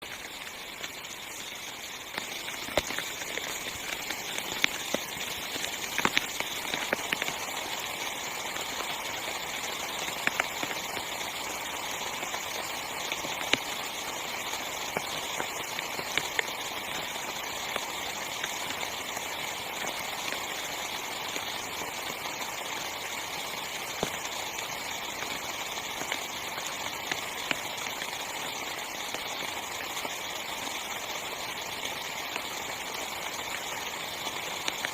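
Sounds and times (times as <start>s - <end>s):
rain hissing on tent: 0.0s - 34.9s
raindrops striking tent fabric: 0.0s - 34.9s.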